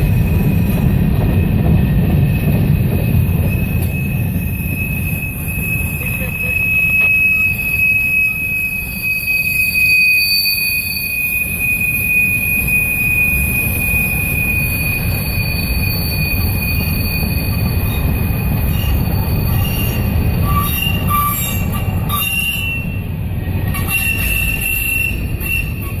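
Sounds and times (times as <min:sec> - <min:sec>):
train wheels rumbling on rail: 0:00.0 - 0:26.0
high-pitched wheel squeal: 0:03.4 - 0:23.0, 0:23.7 - 0:26.0.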